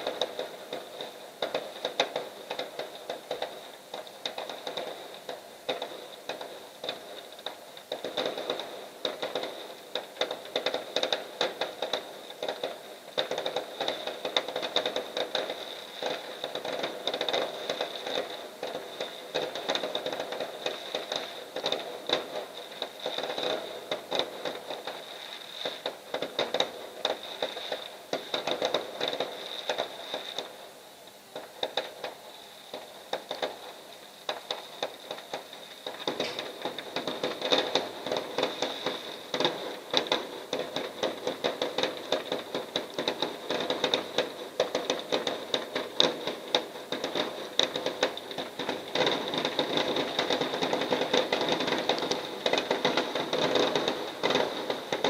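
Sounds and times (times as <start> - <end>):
fireworks crackling and popping: 0.0 - 55.0.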